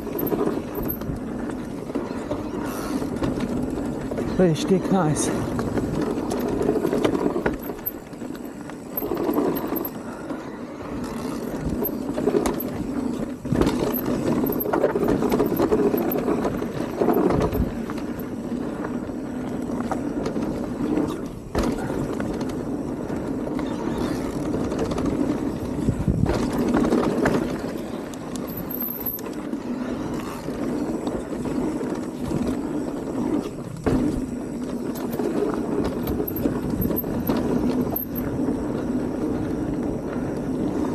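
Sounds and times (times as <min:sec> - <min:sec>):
bike tyres and frame rattling: 0:00.0 - 0:40.9.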